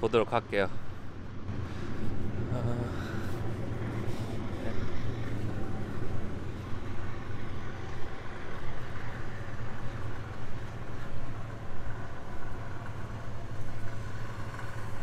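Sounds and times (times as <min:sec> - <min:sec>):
generators humming: 0:00.0 - 0:15.0.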